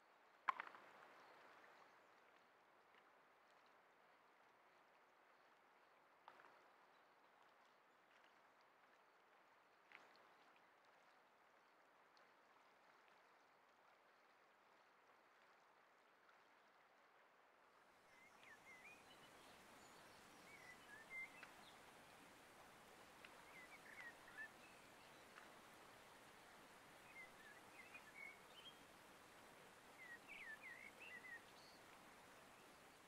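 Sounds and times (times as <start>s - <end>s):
soft steady hiss: 0.0s - 33.0s.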